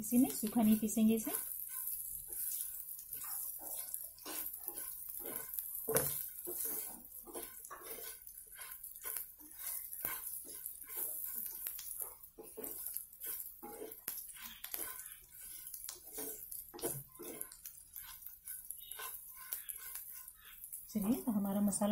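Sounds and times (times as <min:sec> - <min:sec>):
wooden spatula scraping a pan: 0:00.0 - 0:21.9.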